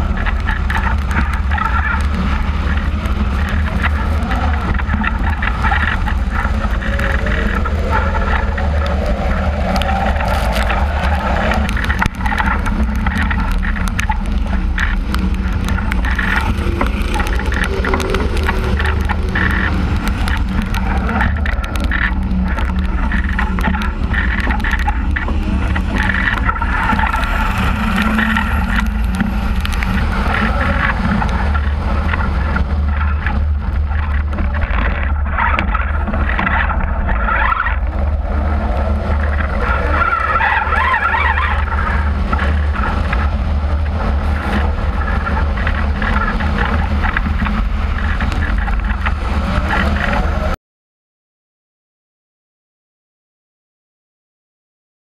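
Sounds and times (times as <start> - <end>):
car engine: 0.0 - 50.6
tyre noise on wet track: 0.0 - 50.6
wind buffeting camera: 0.0 - 50.6.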